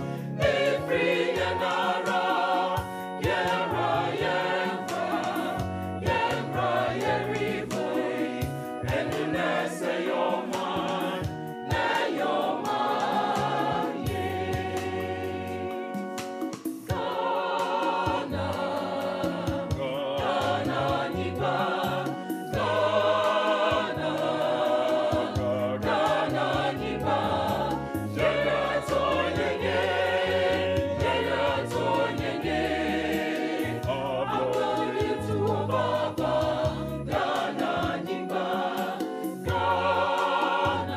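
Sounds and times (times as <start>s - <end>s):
choir singing gospel song: 0.0s - 40.9s.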